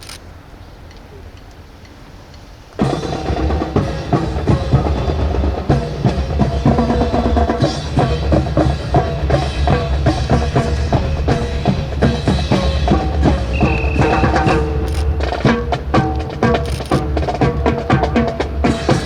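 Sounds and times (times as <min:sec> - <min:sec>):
bass drums: 0:02.8 - 0:19.0
snare drums: 0:02.8 - 0:19.0.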